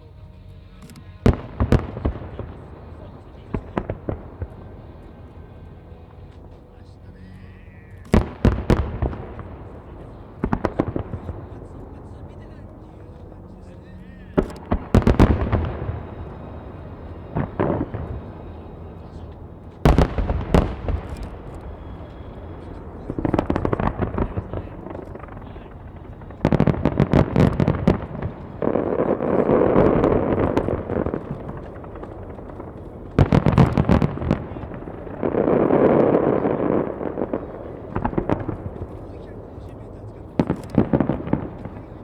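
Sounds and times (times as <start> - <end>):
dense steady rush of noise: 0.0 - 42.0
fireworks bursting with sharp bangs: 0.0 - 42.0.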